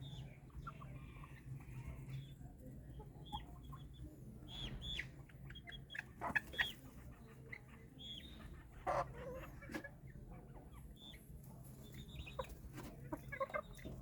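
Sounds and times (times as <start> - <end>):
chickens clucking and peeping: 0.0 - 14.0.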